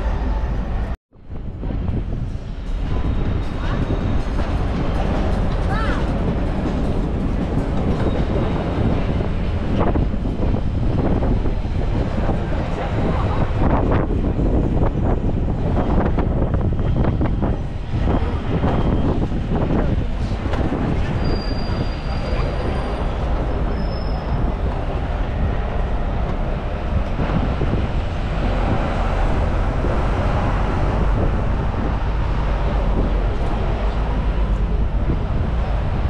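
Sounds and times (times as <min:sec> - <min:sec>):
bus rumbling: 0:00.0 - 0:36.0.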